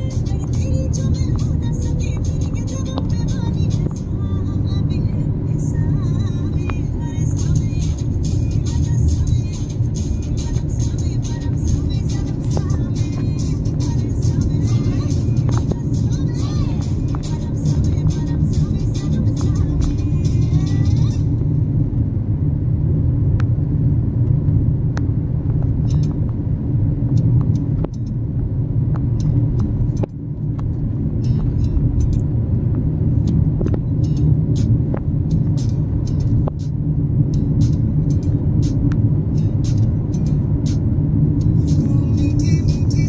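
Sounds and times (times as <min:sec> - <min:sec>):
car road and tyre rumble: 0:00.0 - 0:43.0.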